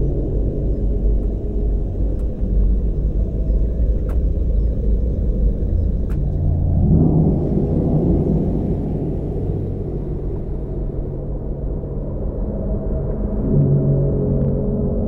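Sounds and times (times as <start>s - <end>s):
dark ambient rumbling drone: 0.0s - 15.0s.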